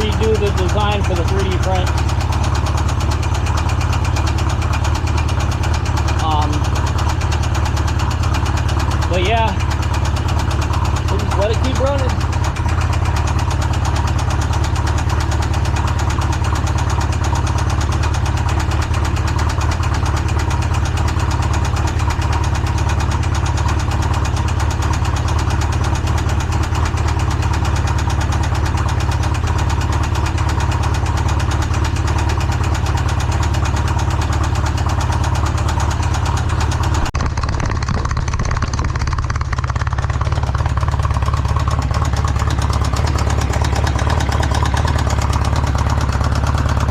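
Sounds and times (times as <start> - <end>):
engine idling with rod knock: 0.0 - 46.9.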